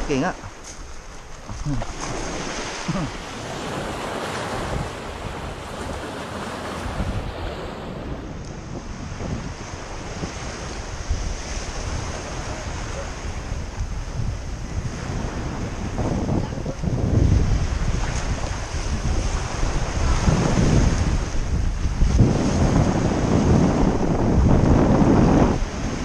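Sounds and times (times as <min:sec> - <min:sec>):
surf on pebbly shore: 0:00.0 - 0:26.0
wind buffeting microphone: 0:00.0 - 0:26.0.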